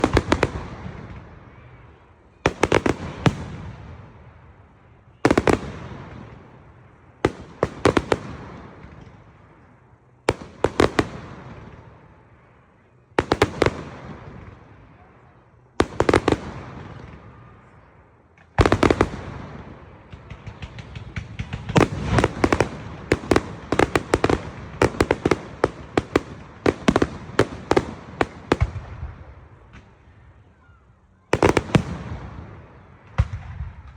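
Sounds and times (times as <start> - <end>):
fireworks bangs: 0.0 - 30.5, 31.2 - 33.9.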